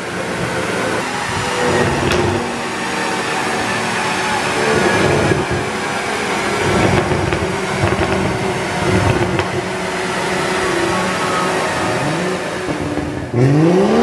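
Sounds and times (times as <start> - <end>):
car engine running steadily: 0.0 - 14.0
dyno rollers whirring: 0.0 - 14.0.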